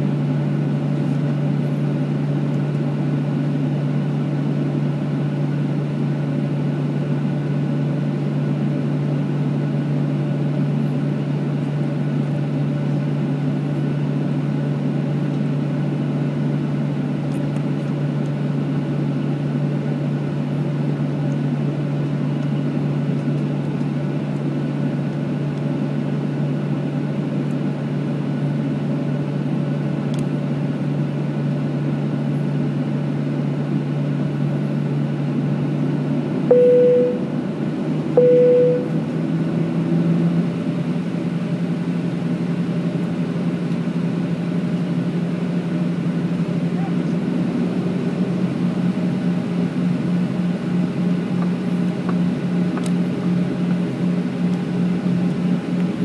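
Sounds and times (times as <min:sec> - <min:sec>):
aircraft cabin engine hum: 0:00.0 - 0:56.0.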